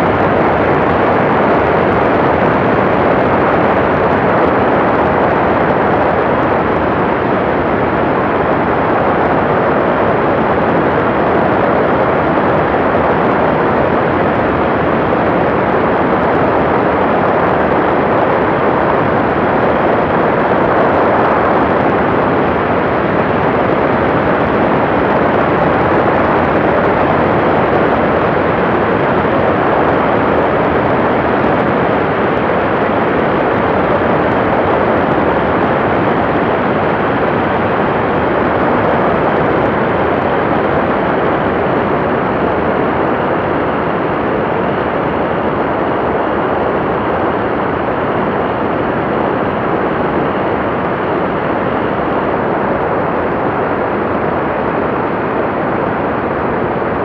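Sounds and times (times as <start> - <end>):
aircraft engine: 0.0 - 57.0
rushing wind: 0.0 - 57.0.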